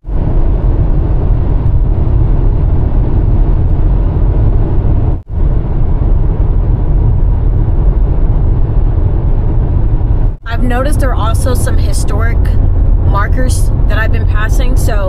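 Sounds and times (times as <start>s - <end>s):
road and tyre rumble in car cabin: 0.0s - 15.0s.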